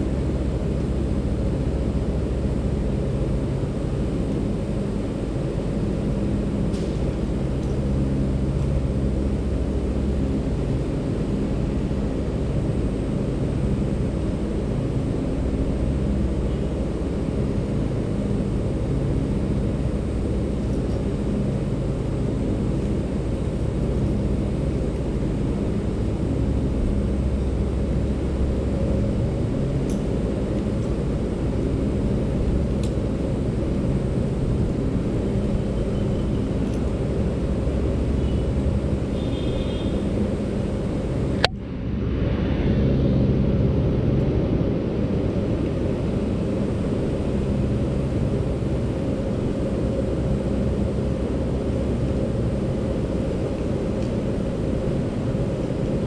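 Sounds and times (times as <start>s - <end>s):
steady low rumble: 0.0s - 39.2s, 40.0s - 56.0s
low hum: 0.0s - 56.0s.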